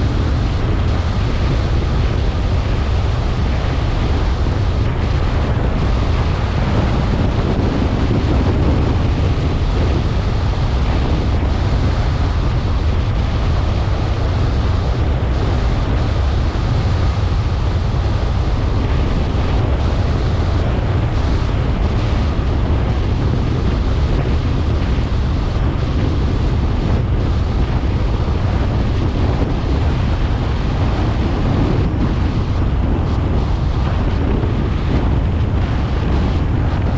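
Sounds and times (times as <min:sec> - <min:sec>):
car driving rumble: 0:00.0 - 0:36.9
wind buffeting microphone: 0:00.0 - 0:36.9.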